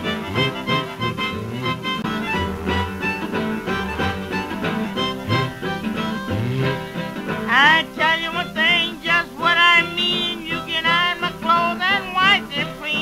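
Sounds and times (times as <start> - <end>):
old country blues recording: 0.0 - 13.0.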